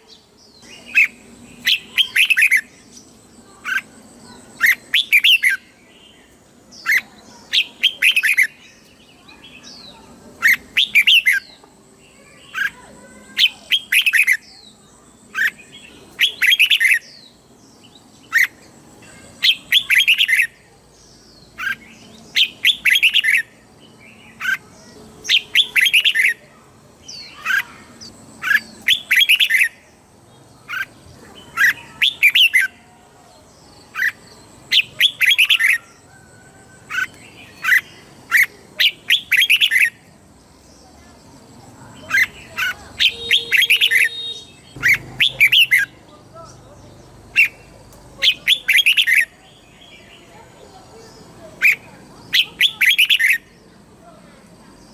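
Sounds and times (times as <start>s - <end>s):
bulbul singing: 0.0s - 54.9s.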